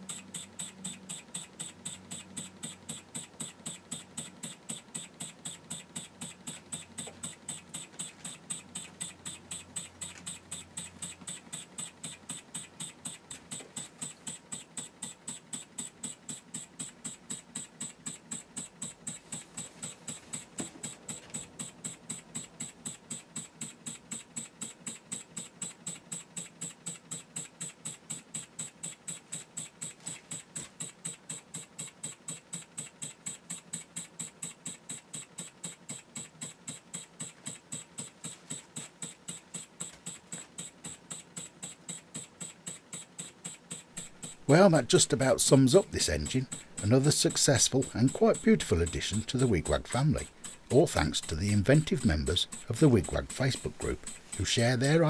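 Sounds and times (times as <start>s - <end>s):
model engine exhaust puffs: 0.0s - 55.0s.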